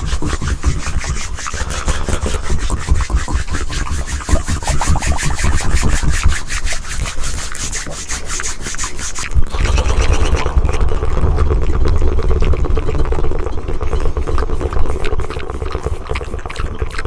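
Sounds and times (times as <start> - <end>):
buzzing tongue flutter: 0.0 - 17.0
scratchy rubbing strokes: 0.0 - 17.0.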